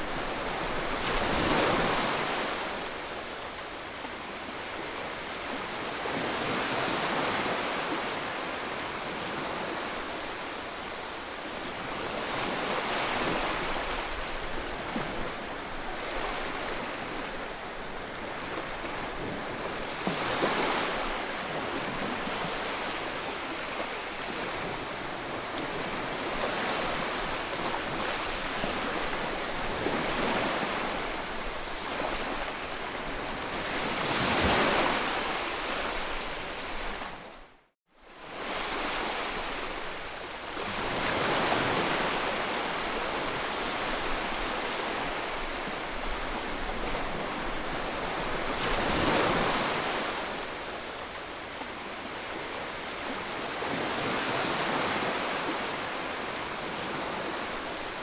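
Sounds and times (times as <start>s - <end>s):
ocean waves breaking: 0.0s - 10.6s, 11.7s - 37.3s, 38.3s - 58.0s.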